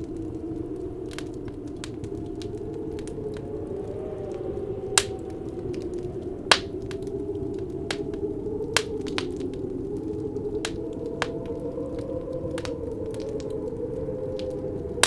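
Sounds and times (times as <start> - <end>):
low howling wind: 0.0 - 15.0
wood fire crackling and popping: 0.0 - 15.0.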